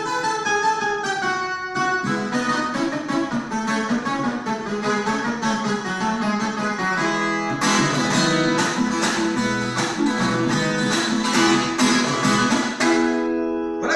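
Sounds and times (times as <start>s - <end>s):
guitar picking and strumming: 0.0s - 13.9s.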